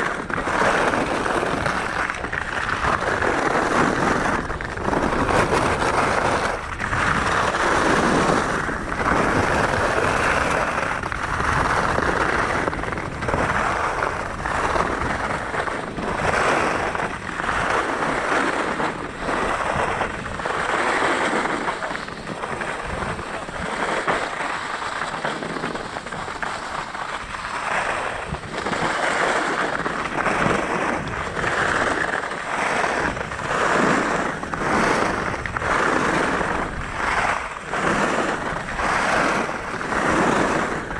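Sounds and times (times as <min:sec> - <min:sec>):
skis scraping over snow: 0:00.0 - 0:40.9.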